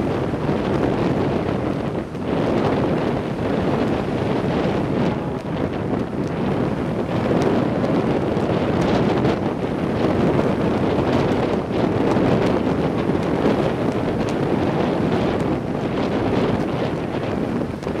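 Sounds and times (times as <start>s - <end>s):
surf breaking on shore: 0.0s - 18.0s
wind buffeting microphone: 0.0s - 18.0s.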